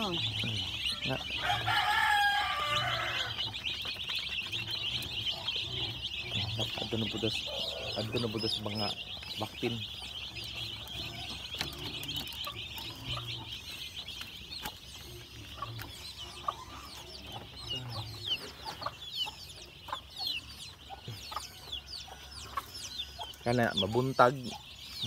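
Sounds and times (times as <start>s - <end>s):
chicks peeping: 0.0s - 25.0s.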